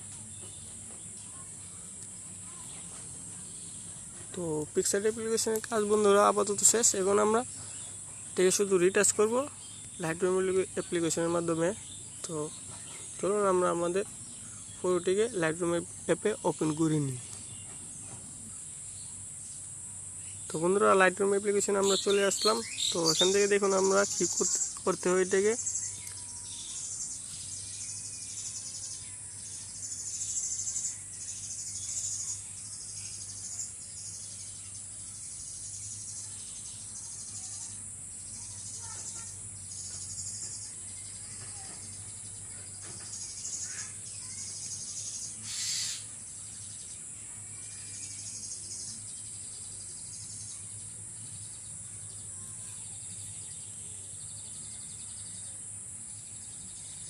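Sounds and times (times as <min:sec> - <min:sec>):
faint chirps and ticks: 0:00.0 - 0:57.0
insects chirring: 0:00.0 - 0:57.0.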